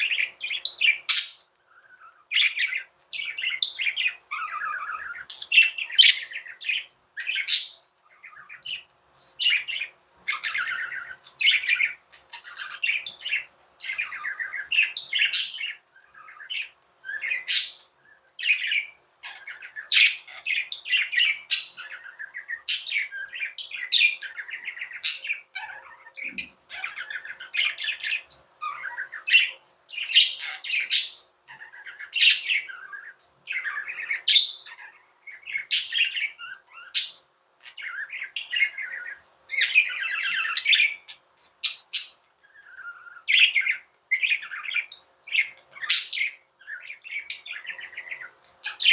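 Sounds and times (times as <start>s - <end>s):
budgerigars chirping and warbling: 0.0s - 48.9s.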